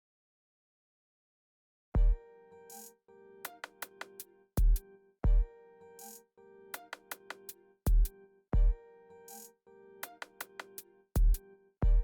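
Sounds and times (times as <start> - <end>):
music track: 2.0 - 12.0.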